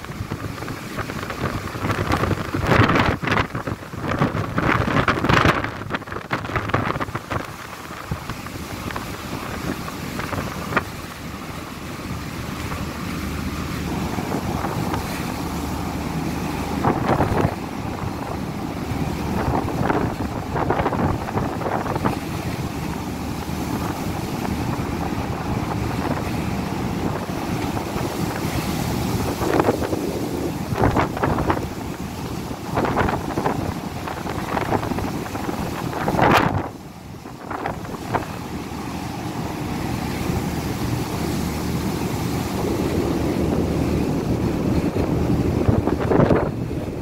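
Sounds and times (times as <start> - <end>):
steady low rumble: 0.0 - 47.0
wind buffeting microphone: 0.0 - 47.0.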